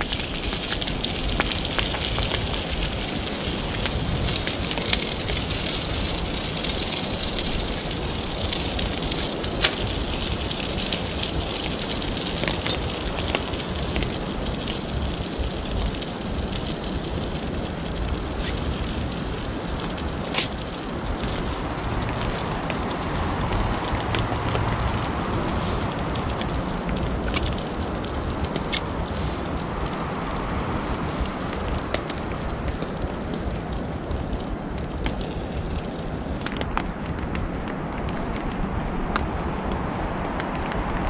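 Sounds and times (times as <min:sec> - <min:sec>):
rain falling on a tarp: 0:00.0 - 0:41.0.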